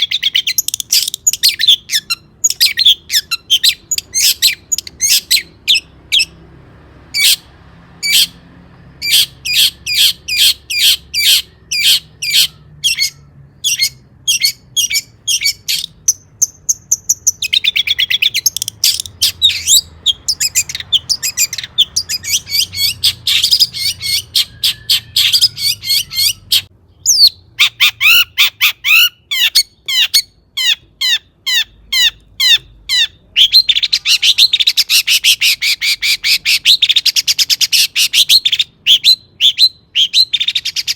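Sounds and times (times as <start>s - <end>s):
bird chattering: 0.0s - 6.4s, 9.0s - 40.9s.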